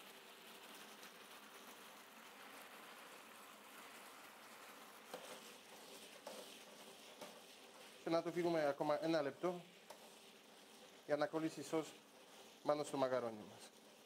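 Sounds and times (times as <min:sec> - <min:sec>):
sauce bubbling in a pan: 0:00.0 - 0:14.0.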